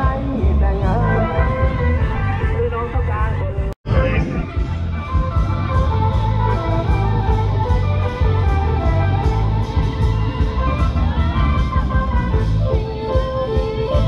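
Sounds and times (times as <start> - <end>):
music with strong bass beat: 0.0 - 14.0.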